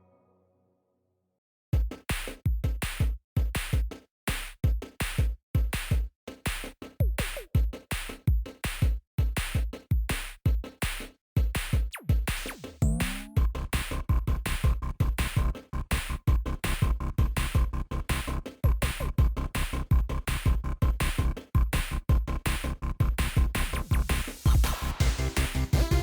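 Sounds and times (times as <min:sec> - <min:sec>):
electronic music with drum-machine beat: 0:01.8 - 0:26.0.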